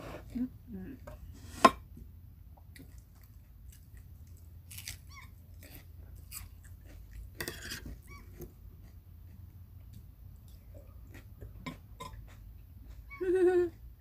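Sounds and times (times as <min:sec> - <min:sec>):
chewing and crunching food: 0:02.6 - 0:13.9.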